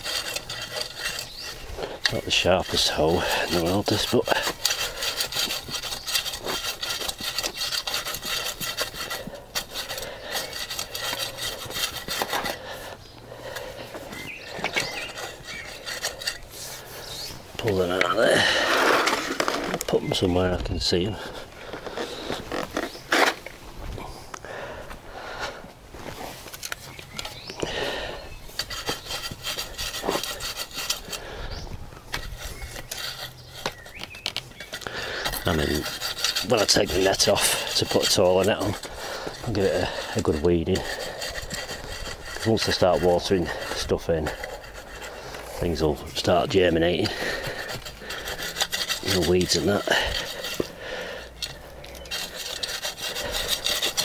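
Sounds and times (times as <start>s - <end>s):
garden hoe scraping soil: 0.0s - 54.0s.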